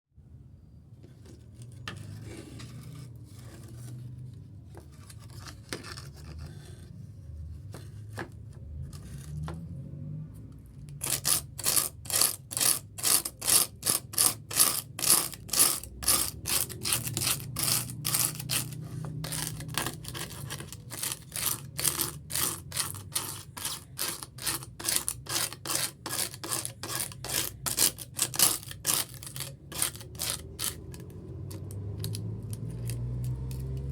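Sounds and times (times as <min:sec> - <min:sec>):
scraping on fiberglass: 0:01.0 - 0:09.7, 0:11.0 - 0:31.7.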